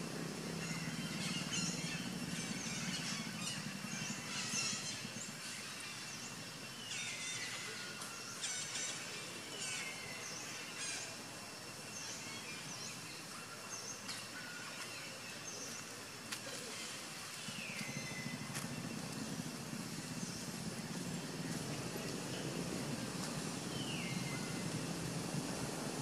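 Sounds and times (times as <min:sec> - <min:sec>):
distant engine hum: 0:00.0 - 0:13.1, 0:15.4 - 0:26.0
birds chirping: 0:00.2 - 0:26.0.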